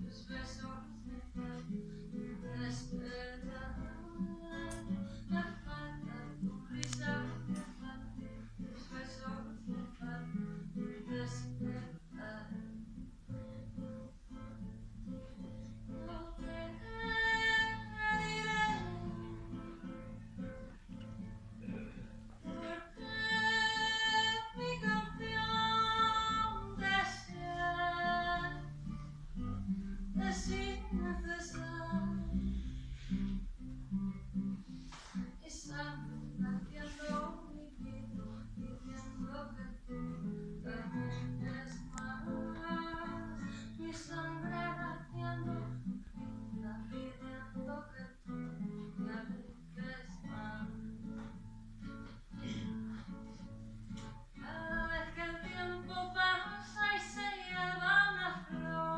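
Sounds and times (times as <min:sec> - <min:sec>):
guitar accompaniment: 0:00.0 - 0:58.9.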